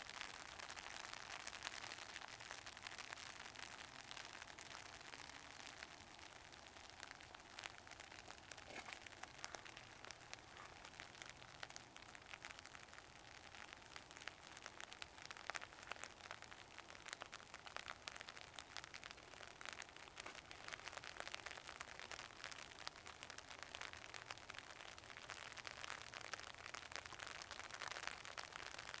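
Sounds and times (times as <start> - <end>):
faint steady rain: 0.0 - 29.0.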